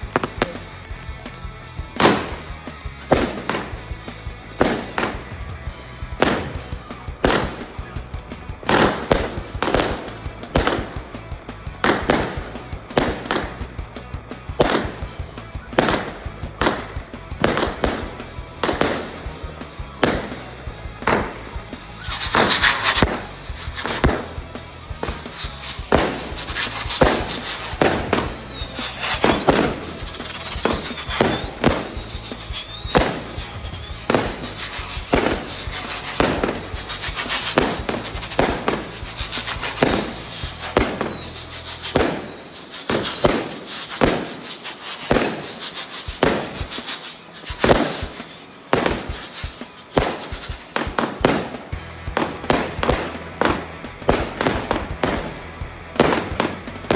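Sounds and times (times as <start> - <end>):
background music: 0.0 - 56.9
fireworks bangs and crackles: 0.0 - 56.9
fireworks whistling: 0.0 - 56.9.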